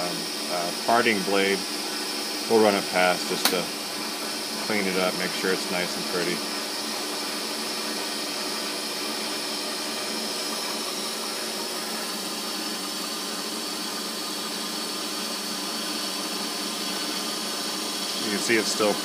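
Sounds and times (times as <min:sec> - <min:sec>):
milling machine humming: 0:00.0 - 0:19.0.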